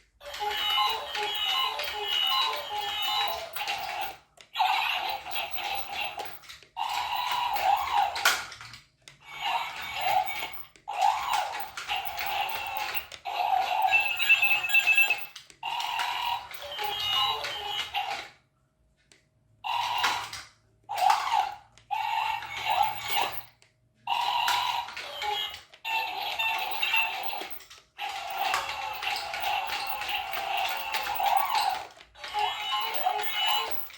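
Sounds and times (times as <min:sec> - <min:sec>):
toy robot beeping tones: 0:00.2 - 0:08.3, 0:09.2 - 0:18.2, 0:19.7 - 0:20.4, 0:21.0 - 0:23.5, 0:24.1 - 0:33.9.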